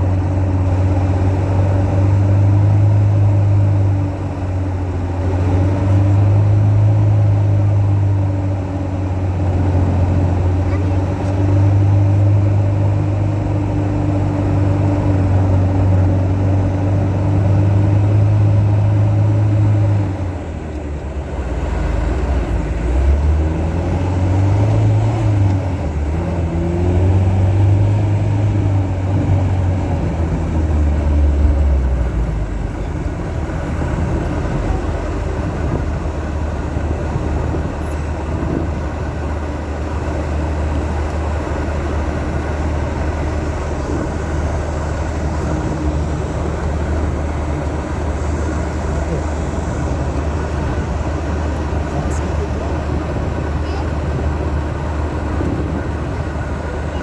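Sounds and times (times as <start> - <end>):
engine running with changing revs: 0.0 - 57.0.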